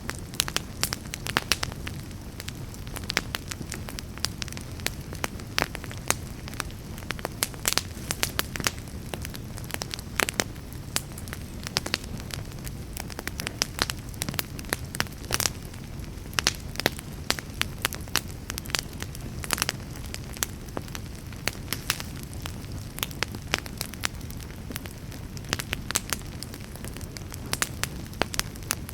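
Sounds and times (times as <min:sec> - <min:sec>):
sharp pops from burning wood: 0:00.0 - 0:28.9
wood fire crackling: 0:00.0 - 0:28.9.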